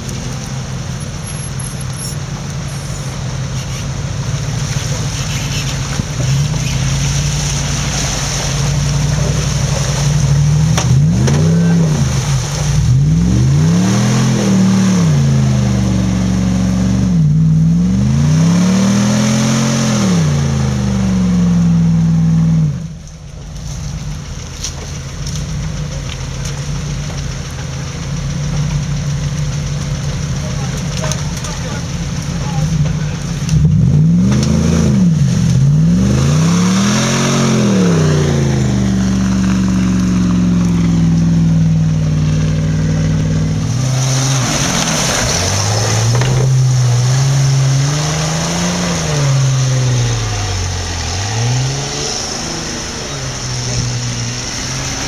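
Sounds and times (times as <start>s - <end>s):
engine revving: 0.0s - 55.0s.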